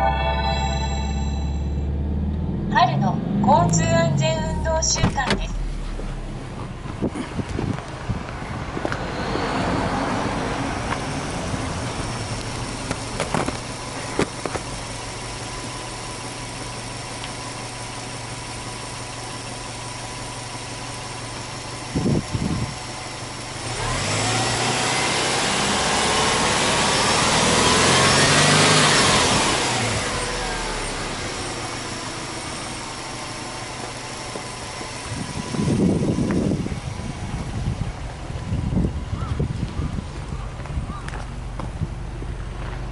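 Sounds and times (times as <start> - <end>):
car engine starting and idling: 0.0 - 42.9
car engine revving: 1.2 - 37.5.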